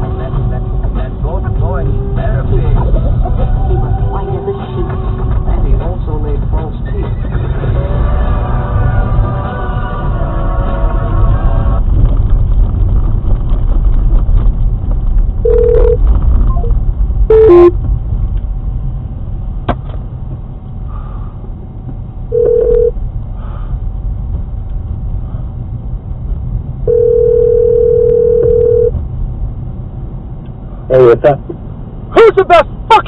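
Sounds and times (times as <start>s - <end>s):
car interior road noise: 0.0s - 33.0s.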